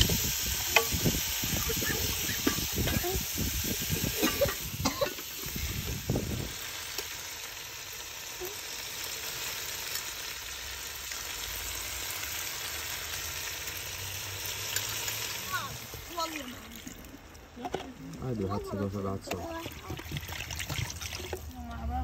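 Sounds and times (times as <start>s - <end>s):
food sizzling in a pan: 0.0s - 17.8s.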